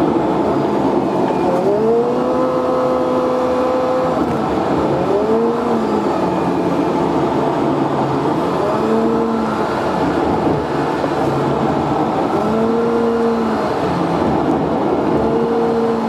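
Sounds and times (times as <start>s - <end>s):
car engine revving: 0.0s - 16.0s
road noise inside car: 0.0s - 16.0s.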